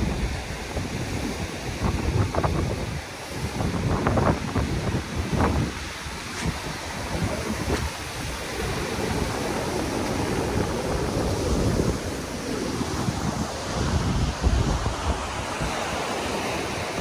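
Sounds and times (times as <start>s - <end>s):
surf breaking over rocks: 0.0s - 17.0s
wind buffeting microphone: 0.0s - 17.0s.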